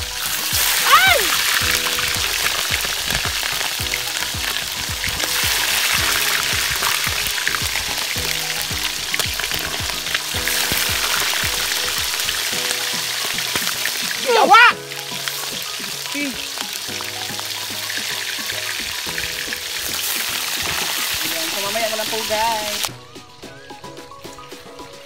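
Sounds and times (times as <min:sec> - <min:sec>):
fish sizzling in hot oil: 0:00.0 - 0:22.9
faint music: 0:00.0 - 0:25.0.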